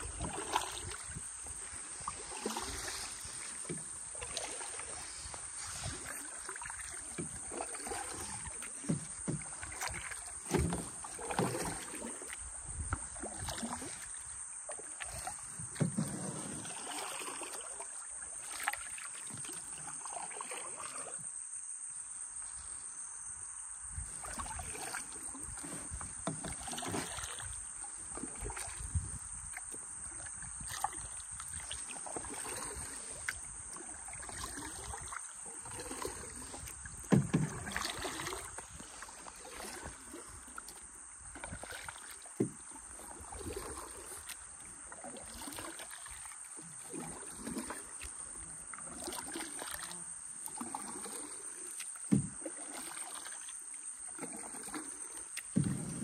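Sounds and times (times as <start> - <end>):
paddles splashing in water: 0.0 - 21.5, 23.9 - 56.0.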